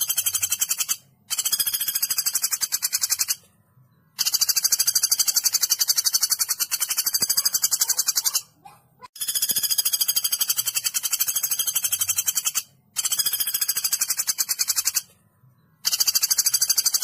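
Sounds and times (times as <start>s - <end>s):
woodpecker rattling call: 0.0s - 3.4s, 4.2s - 15.1s, 15.8s - 17.0s.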